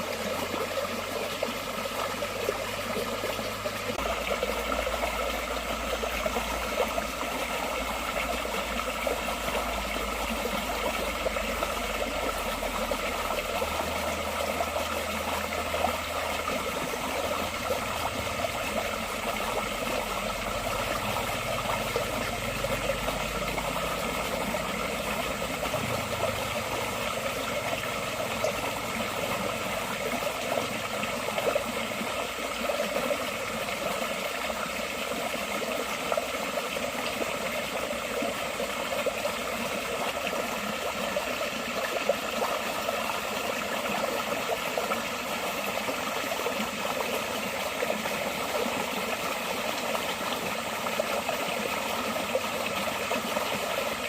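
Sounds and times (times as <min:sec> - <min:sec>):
stream burbling over stones: 0:00.0 - 0:54.0.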